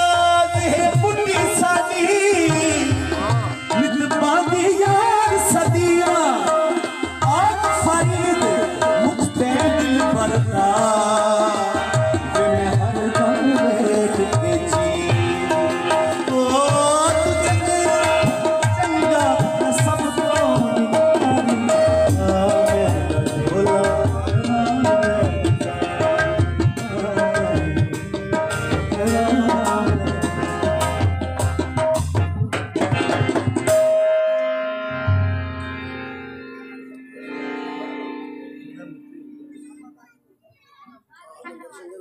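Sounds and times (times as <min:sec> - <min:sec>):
tabla fast rhythm: 0:00.0 - 0:35.5, 0:41.0 - 0:42.0
harmonium: 0:00.0 - 0:42.0.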